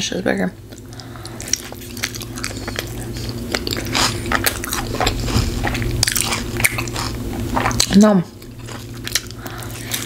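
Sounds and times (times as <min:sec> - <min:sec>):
close chewing with wet smacking: 0:00.7 - 0:10.0
biting into a burger: 0:00.8 - 0:10.0.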